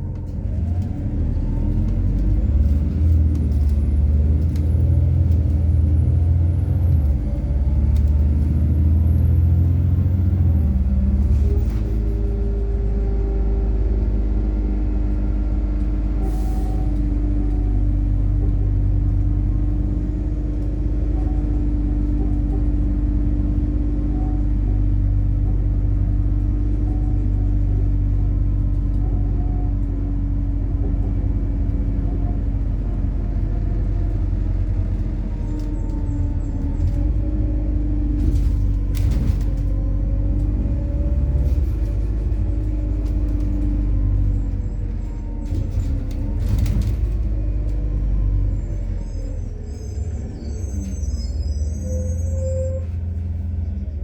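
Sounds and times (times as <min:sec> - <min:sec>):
bus engine and road drone: 0:00.0 - 0:54.0.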